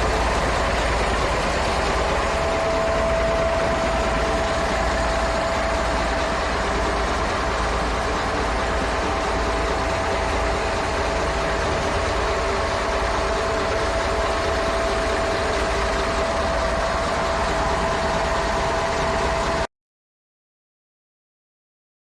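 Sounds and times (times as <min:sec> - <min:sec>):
diesel truck engine idling: 0:00.0 - 0:19.7.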